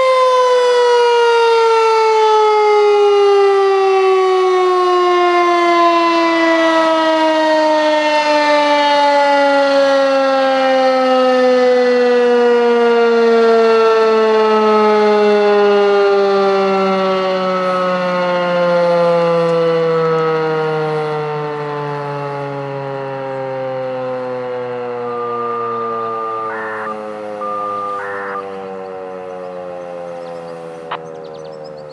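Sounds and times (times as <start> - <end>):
warning siren winding down: 0.0 - 31.9.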